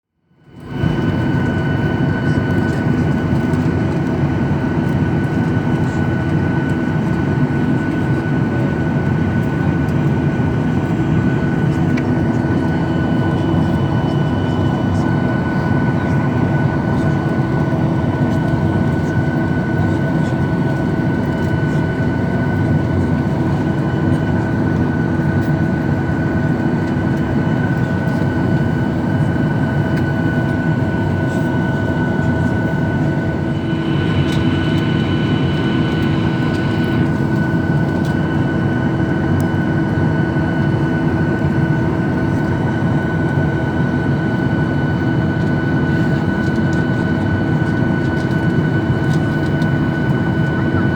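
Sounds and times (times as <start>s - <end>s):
jet engines roaring: 8.4s - 50.9s.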